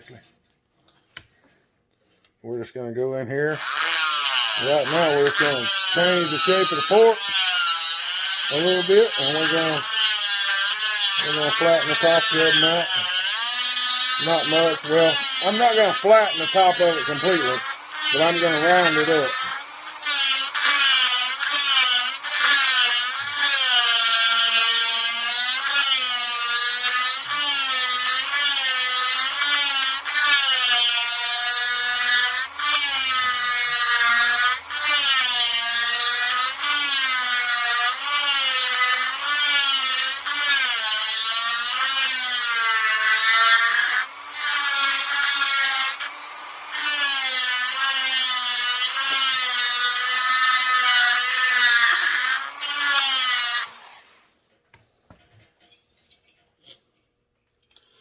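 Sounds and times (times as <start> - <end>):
rotary grinder whining on metal: 3.4 - 54.3.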